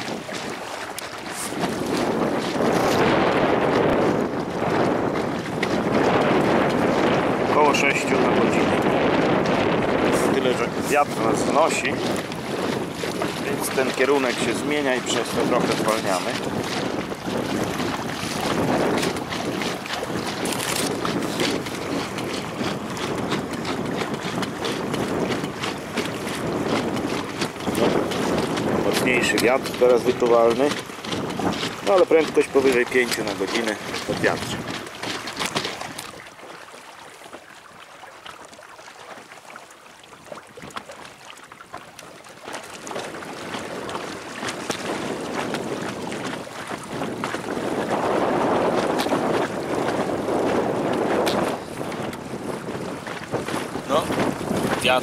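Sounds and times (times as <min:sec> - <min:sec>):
wind buffeting microphone: 0:00.0 - 0:37.9, 0:40.0 - 0:55.0
water splashing against boat: 0:00.0 - 0:55.0.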